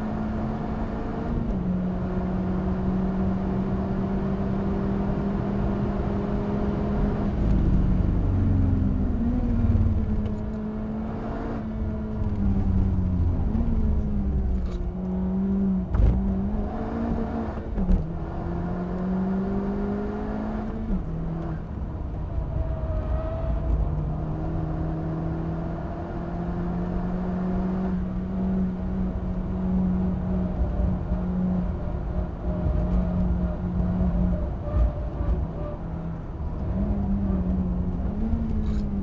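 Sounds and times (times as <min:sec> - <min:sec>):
car engine revving in cabin: 0:00.0 - 0:39.0.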